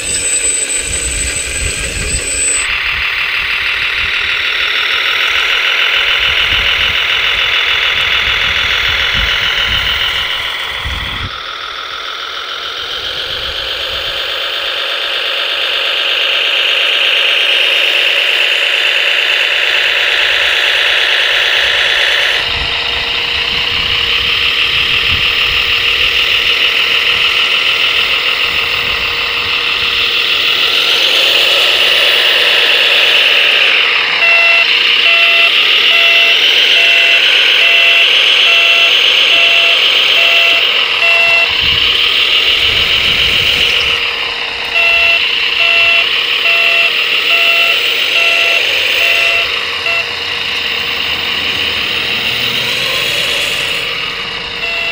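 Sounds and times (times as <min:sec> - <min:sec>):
model engine buzzing drone: 0:00.0 - 0:54.9.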